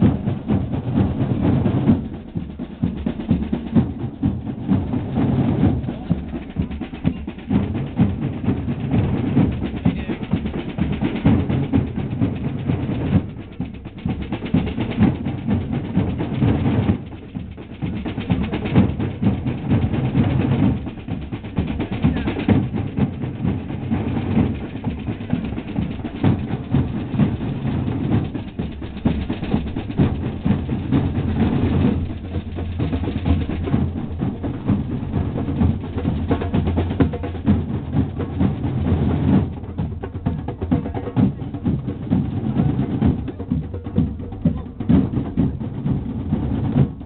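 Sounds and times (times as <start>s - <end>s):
snare drums drumming: 0.0s - 47.0s.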